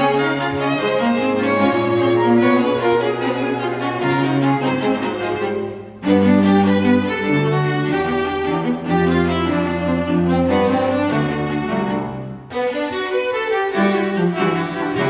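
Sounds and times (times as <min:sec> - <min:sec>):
low cello notes: 0:00.0 - 0:15.0
string quartet bowed chords: 0:00.0 - 0:15.0.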